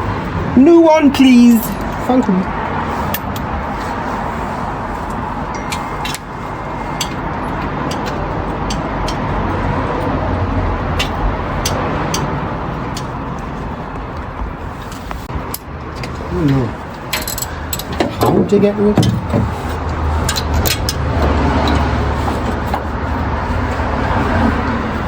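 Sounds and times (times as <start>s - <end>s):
road vehicle noise: 0.0s - 25.0s.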